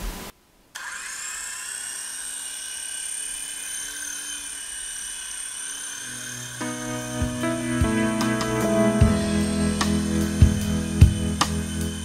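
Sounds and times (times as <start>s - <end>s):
toy helicopter motor whine: 0.8s - 8.2s, 8.8s - 12.0s.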